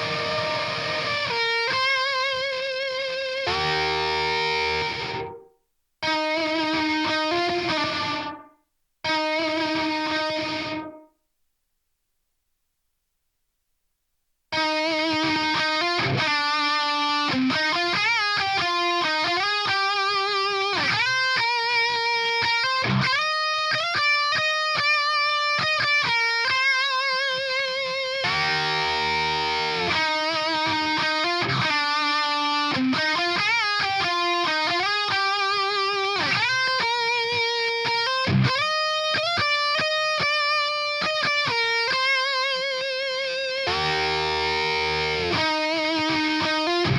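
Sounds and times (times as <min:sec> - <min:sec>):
distorted electric guitar lead: 0:00.0 - 0:05.4, 0:06.0 - 0:08.4, 0:09.1 - 0:10.9, 0:14.6 - 0:46.9
low chugging guitar rhythm: 0:00.0 - 0:11.0, 0:14.5 - 0:46.9.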